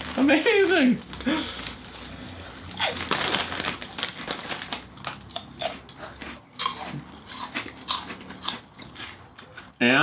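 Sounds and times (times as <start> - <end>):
crunching on snack chips: 0.0 - 9.8.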